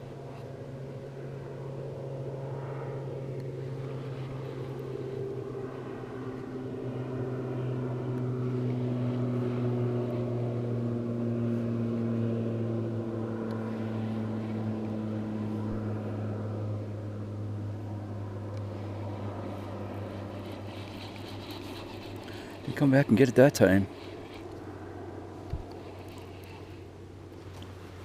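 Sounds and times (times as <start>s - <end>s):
distant engine passing: 0.0s - 28.0s.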